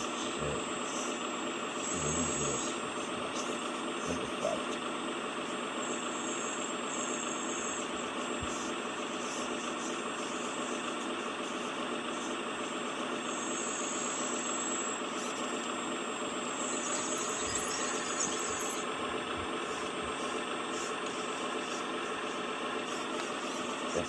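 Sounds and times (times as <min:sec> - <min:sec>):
diesel engine running: 0:00.0 - 0:24.0
faint high whine: 0:00.0 - 0:24.0.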